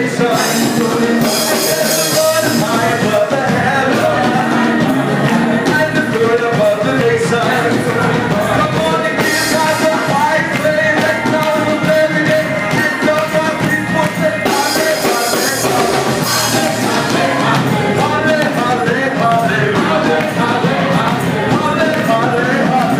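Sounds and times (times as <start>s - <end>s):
backing music: 0.0s - 22.9s
gospel group singing: 0.0s - 22.9s.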